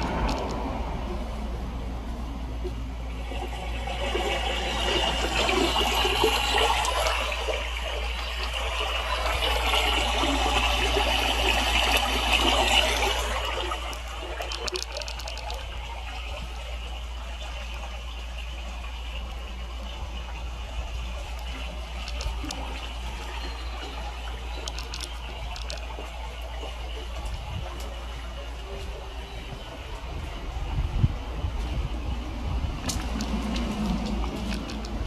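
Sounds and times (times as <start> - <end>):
steady low hum: 0.0 - 35.0
rushing splashing water: 3.2 - 30.6, 31.3 - 35.0.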